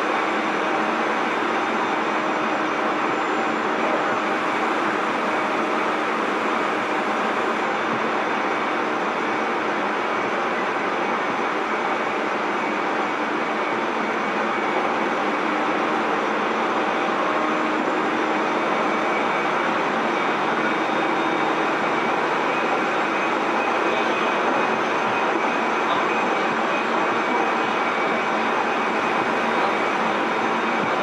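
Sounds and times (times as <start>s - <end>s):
electric train rumbling at speed: 0.0s - 31.0s.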